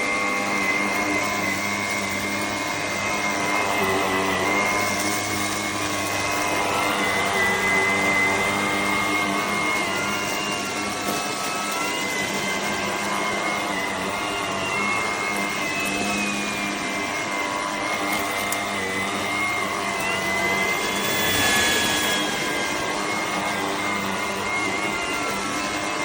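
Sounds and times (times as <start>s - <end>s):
stick vacuum running: 0.0s - 26.0s.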